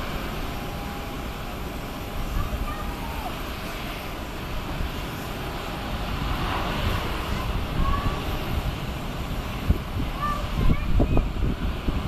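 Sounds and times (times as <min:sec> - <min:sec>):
jet engines rumbling with hiss: 0:00.0 - 0:12.0.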